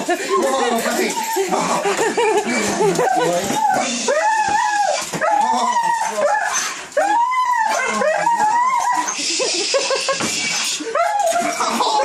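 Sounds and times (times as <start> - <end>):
dog whining and yelping: 0.4 - 9.3, 10.5 - 12.0.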